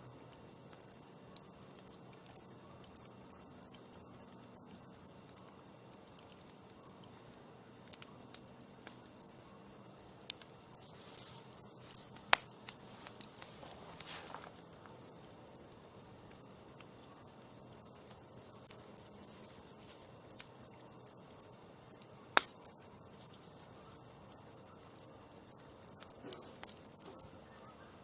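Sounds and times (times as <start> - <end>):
campfire crackling and popping: 0.0 - 28.0
faint steady hiss: 0.0 - 28.0.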